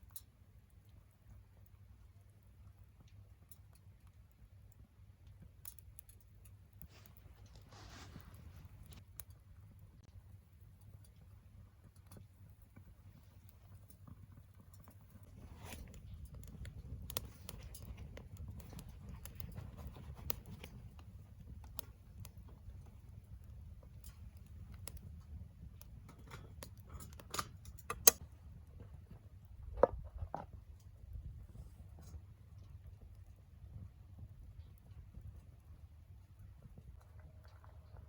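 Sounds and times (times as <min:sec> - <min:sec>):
fire crackles and pops: 0:00.0 - 0:38.0
wood stove fire rumble: 0:00.0 - 0:38.0.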